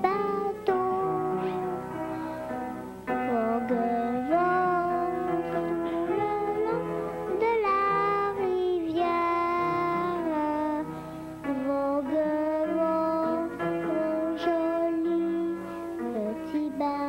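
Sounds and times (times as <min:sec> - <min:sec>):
boy singing: 0:00.0 - 0:02.3, 0:03.1 - 0:17.0
piano accompaniment: 0:00.0 - 0:17.0.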